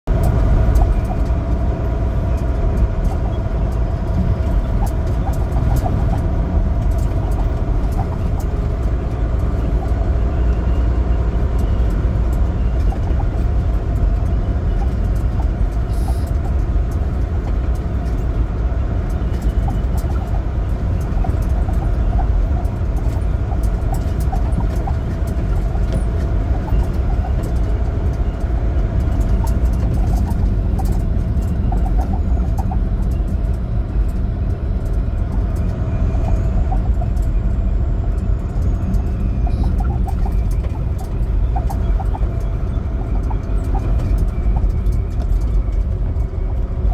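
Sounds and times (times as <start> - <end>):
truck engine and road rumble: 0.0 - 46.9.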